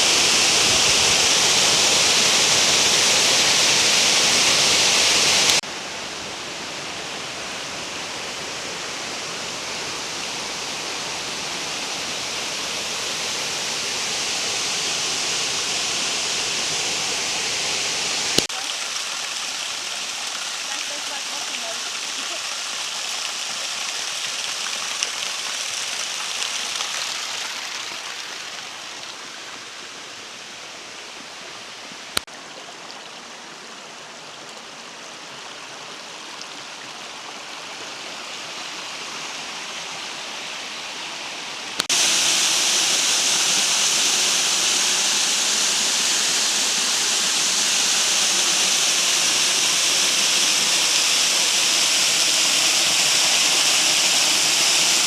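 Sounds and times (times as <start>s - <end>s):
waterfall rushing: 0.0s - 31.2s, 32.1s - 55.0s.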